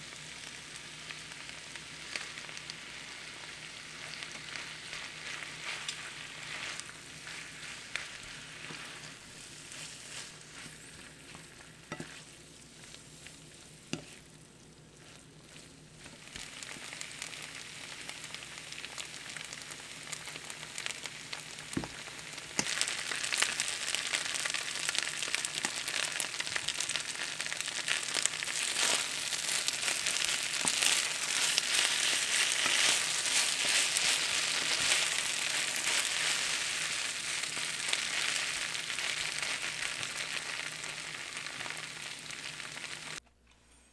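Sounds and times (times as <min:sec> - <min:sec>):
fried rice sizzling in pan: 0:00.0 - 0:43.2.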